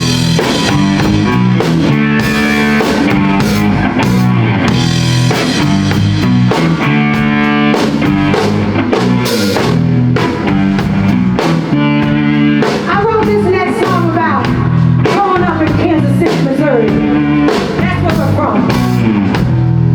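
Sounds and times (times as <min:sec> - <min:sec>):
drum kit beat: 0:00.0 - 0:19.9
electric guitar: 0:00.0 - 0:19.9.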